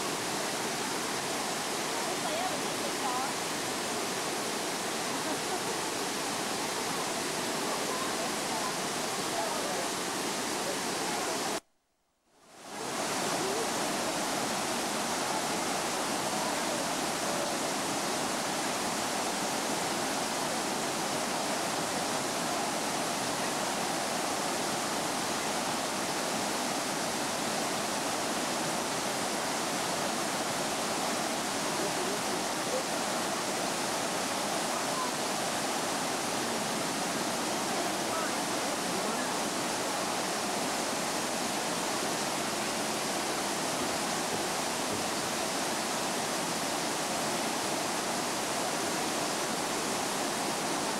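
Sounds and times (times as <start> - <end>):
waterfall rushing: 0.0 - 11.6, 12.5 - 50.9.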